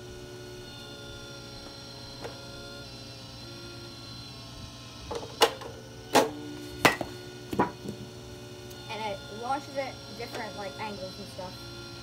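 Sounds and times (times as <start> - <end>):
pitching machine whirring: 0.0 - 12.0.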